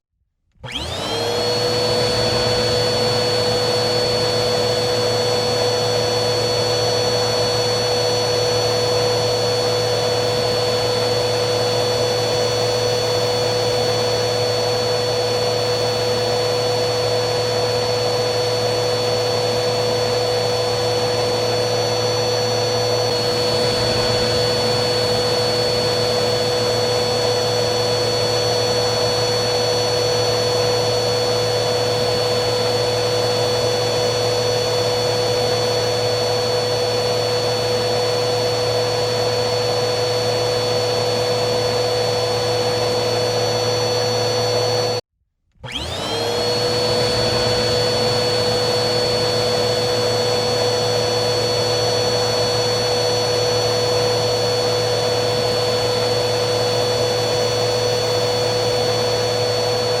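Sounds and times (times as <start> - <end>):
vacuum cleaner motor whining: 0.5 - 60.0.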